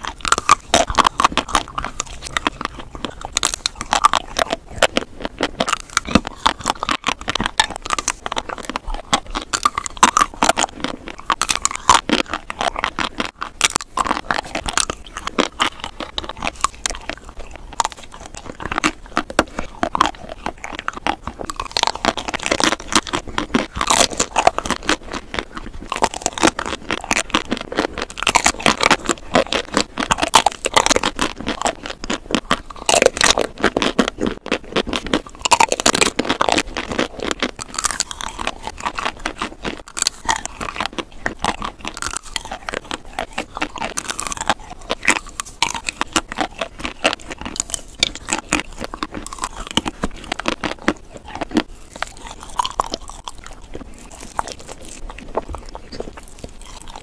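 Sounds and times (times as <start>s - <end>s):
biting and chewing ice cream: 0.0s - 57.0s
chocolate shell crunching: 0.0s - 57.0s.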